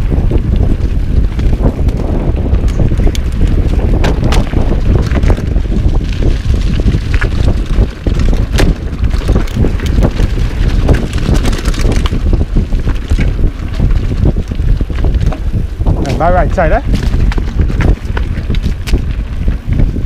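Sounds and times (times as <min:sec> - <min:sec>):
bike clicking and rattling: 0:00.0 - 0:20.0
wind buffeting microphone: 0:00.0 - 0:20.0.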